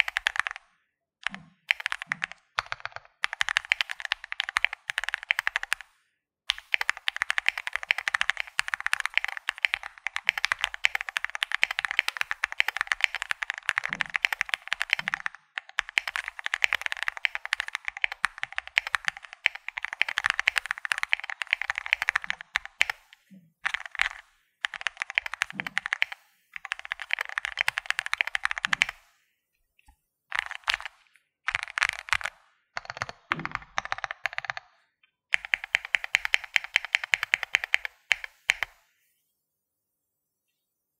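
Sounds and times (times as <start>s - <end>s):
mechanical keyboard typing: 0.0s - 0.6s, 1.2s - 5.9s, 6.5s - 29.1s, 30.3s - 34.7s, 35.3s - 38.8s.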